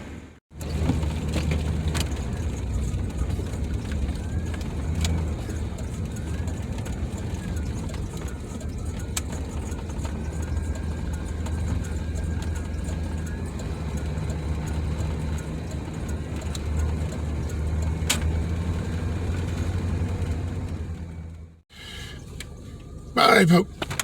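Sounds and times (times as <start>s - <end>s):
road noise: 0.0s - 24.0s
van engine running: 0.0s - 24.0s.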